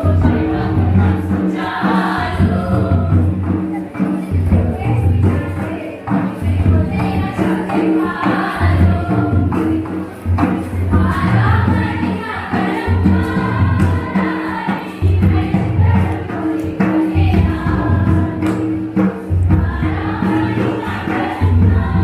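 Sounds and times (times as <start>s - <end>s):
group of voices singing: 0.0s - 22.0s.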